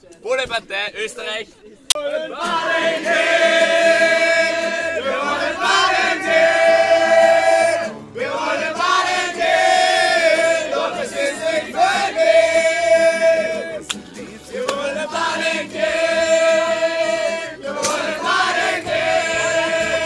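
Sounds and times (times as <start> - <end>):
crowd singing in chorus: 2.0 - 20.0.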